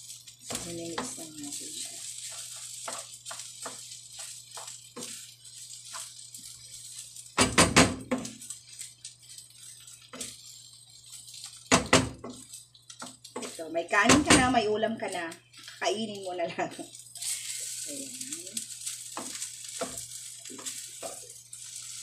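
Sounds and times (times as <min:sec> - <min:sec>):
spatula scraping frying pan: 0:00.0 - 0:22.0.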